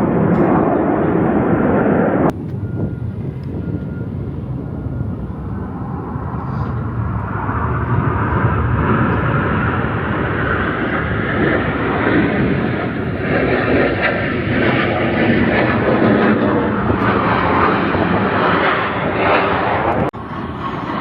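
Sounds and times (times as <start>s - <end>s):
jet aircraft flying past: 0.0s - 21.0s.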